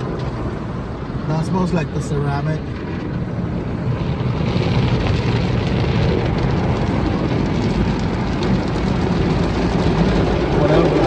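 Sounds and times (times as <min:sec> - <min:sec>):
car wash spray and machinery: 0:00.0 - 0:11.0
low hum: 0:00.0 - 0:11.0.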